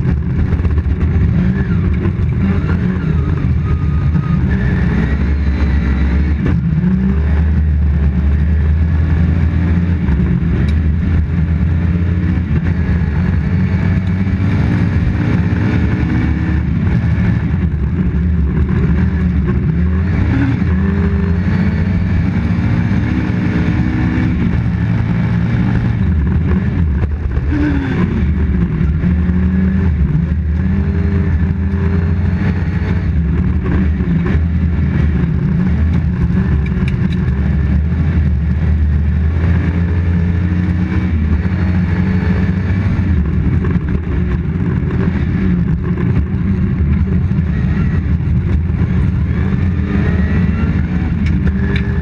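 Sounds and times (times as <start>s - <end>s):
rally car engine from inside cabin: 0.0s - 52.0s.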